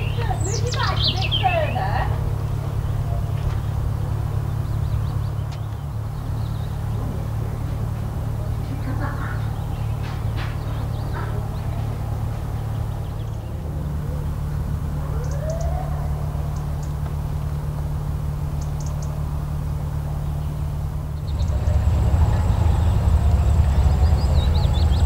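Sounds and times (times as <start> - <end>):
bird chirps: 0.0 - 7.0, 9.0 - 17.5, 18.5 - 19.4, 20.1 - 25.0
boat diesel engine thrumming: 0.0 - 25.0.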